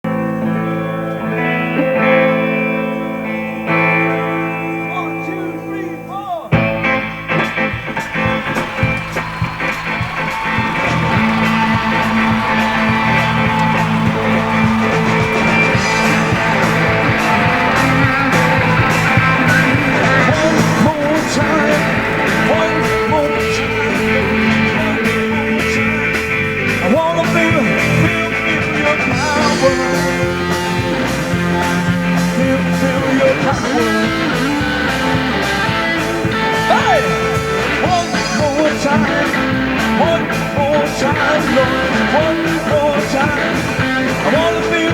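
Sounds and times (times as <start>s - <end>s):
guitar: 0.0s - 44.9s
band playing rock gospel song: 0.1s - 44.9s.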